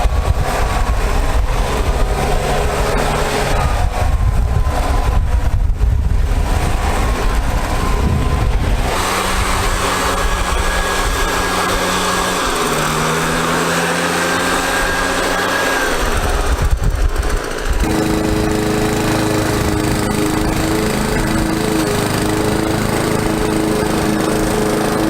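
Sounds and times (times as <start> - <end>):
engine running steadily: 0.0 - 25.0
lawn mower engine running: 0.0 - 25.0.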